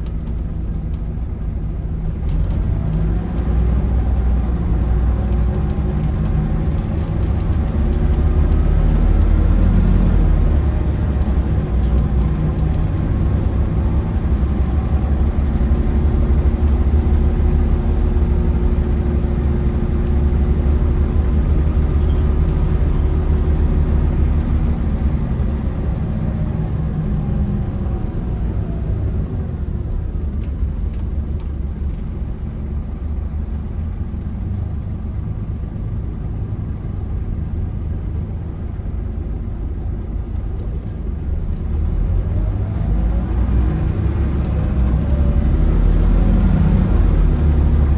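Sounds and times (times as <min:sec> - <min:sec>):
bus engine rumble: 0:00.0 - 0:47.9.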